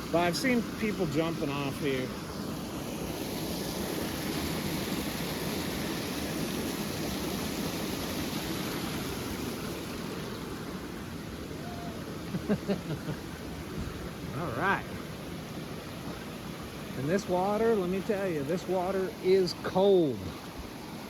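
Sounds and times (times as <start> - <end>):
waterfall and stream rushing: 0.0 - 21.0.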